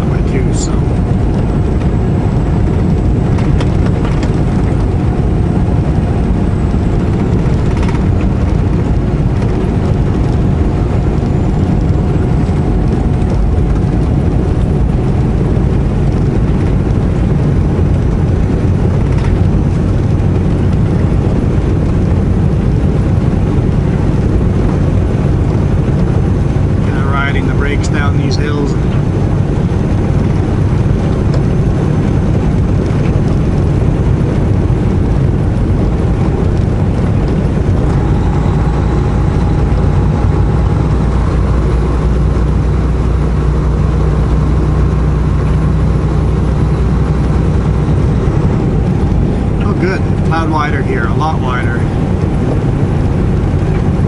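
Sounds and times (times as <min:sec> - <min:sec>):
faint steady whine: 0:00.0 - 0:54.0
road and tyre rumble: 0:00.0 - 0:54.0
truck diesel engine running: 0:00.0 - 0:54.0.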